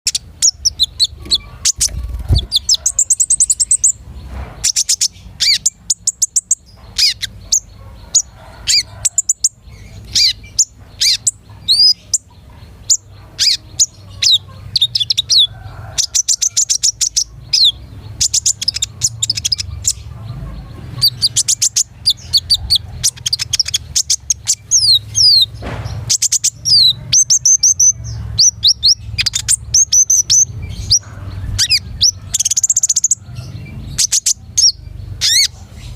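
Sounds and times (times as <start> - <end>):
sunbird chirping and trilling: 0.0 - 35.9.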